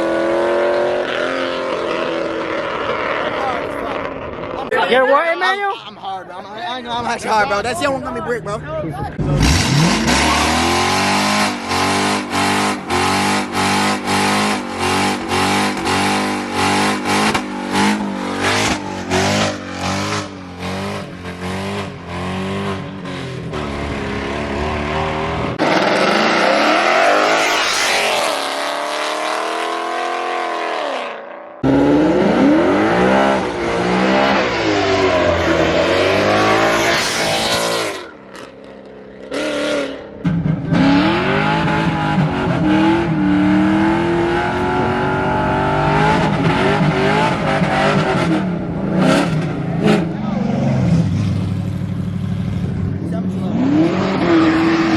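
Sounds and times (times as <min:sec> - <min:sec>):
car engine revving: 0:09.0 - 0:54.9.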